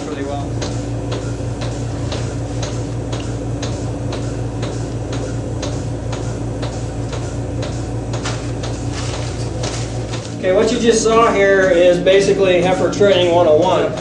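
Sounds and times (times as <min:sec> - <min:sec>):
milking pulsator clicking: 0:00.0 - 0:14.0
steady low hum: 0:00.0 - 0:14.0.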